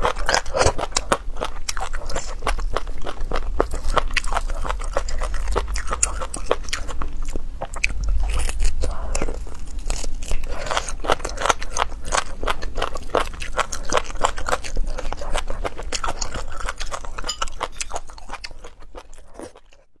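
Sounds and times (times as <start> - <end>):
wet chewing and mouth clicks: 0.0 - 19.9.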